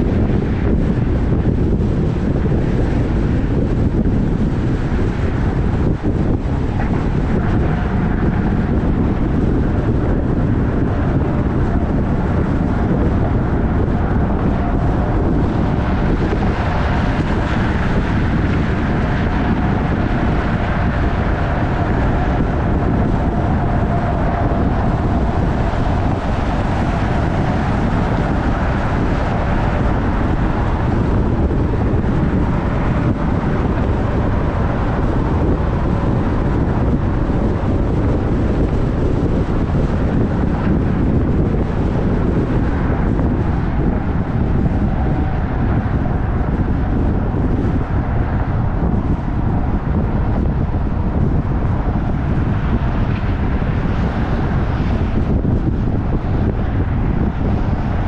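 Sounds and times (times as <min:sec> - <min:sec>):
vehicle rumble: 0:00.0 - 0:58.0
wind buffeting microphone: 0:00.0 - 0:58.0.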